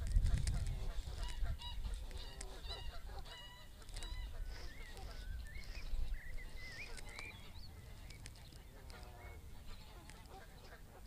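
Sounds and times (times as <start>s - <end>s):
birds calling: 0.0s - 11.0s
wind rumble on microphone: 0.0s - 11.0s.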